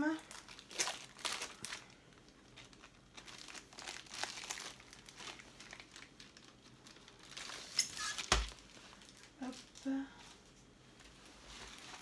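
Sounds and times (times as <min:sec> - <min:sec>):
plastic wrapping crinkling: 0:00.0 - 0:09.9, 0:11.0 - 0:12.0.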